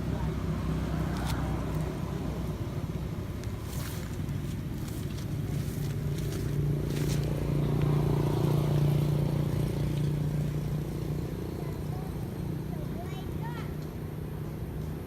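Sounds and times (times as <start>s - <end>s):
vehicle engine humming: 0.0s - 14.8s.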